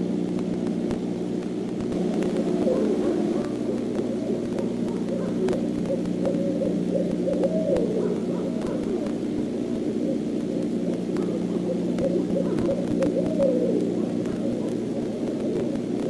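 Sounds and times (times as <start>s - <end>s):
low hum: 0.0s - 16.0s
owls hooting: 1.9s - 16.0s.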